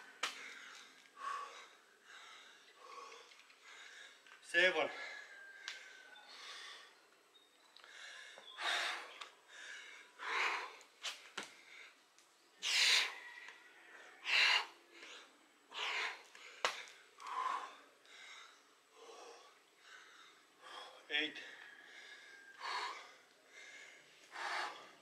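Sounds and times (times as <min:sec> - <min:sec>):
man breathing hard: 0:00.0 - 0:07.1, 0:07.8 - 0:25.0.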